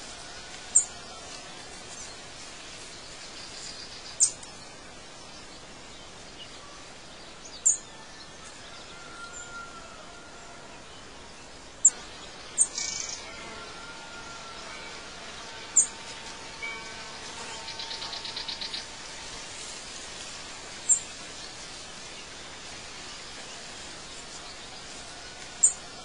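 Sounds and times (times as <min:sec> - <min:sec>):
birds chirping: 0:00.0 - 0:07.8, 0:10.7 - 0:26.0
background hiss: 0:00.0 - 0:26.0.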